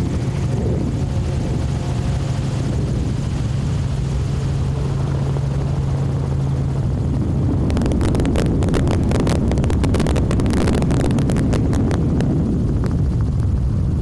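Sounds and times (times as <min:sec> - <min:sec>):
low engine drone: 0:00.0 - 0:14.0
wind buffeting microphone: 0:00.0 - 0:14.0.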